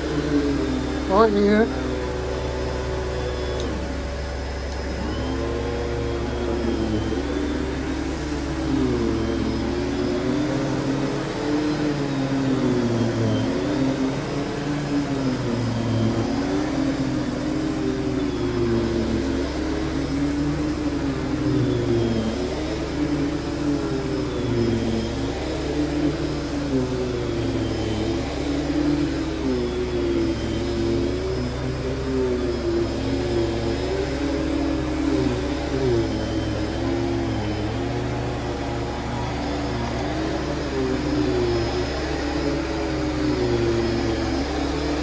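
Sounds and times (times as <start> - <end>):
vacuum cleaner running: 0.0 - 45.0
vacuum nozzle pushed over carpet: 0.0 - 45.0.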